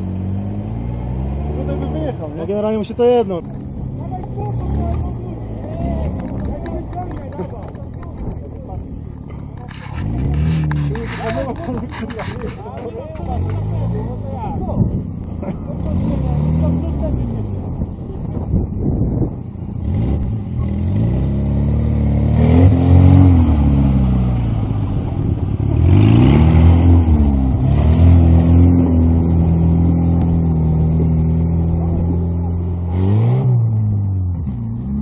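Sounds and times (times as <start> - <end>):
off-road engine revving: 0.0 - 35.0.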